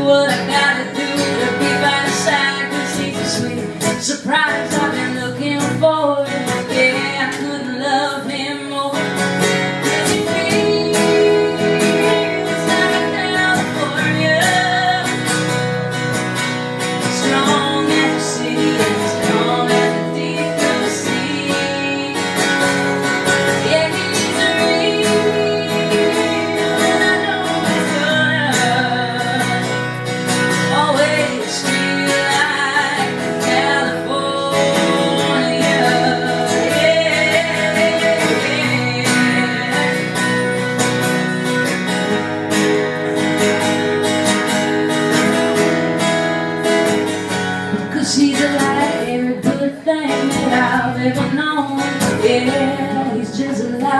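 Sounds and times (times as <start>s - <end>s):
acoustic guitar strumming: 0.0s - 53.9s
woman singing: 0.0s - 53.9s.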